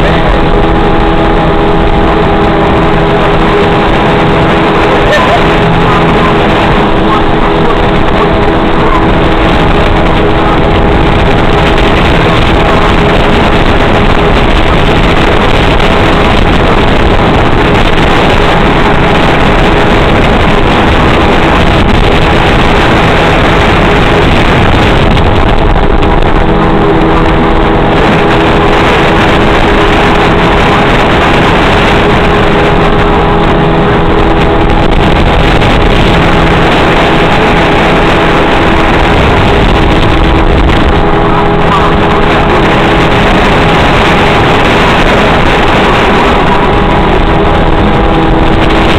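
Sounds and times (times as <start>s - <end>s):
motorboat engine running: 0.0s - 48.9s
wind and water rushing: 0.0s - 48.9s.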